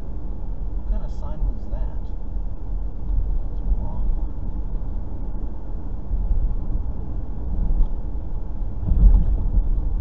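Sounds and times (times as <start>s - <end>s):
car cabin tyre and engine rumble: 0.0s - 10.0s.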